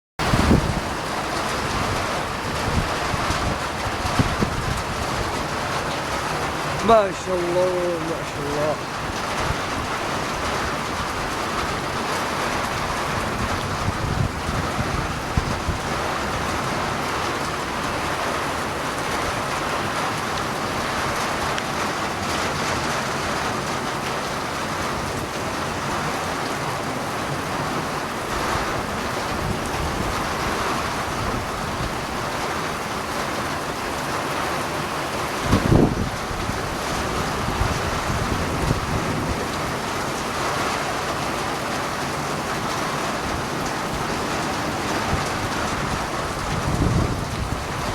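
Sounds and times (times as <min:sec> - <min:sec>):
steady rain falling: 0:00.2 - 0:47.9.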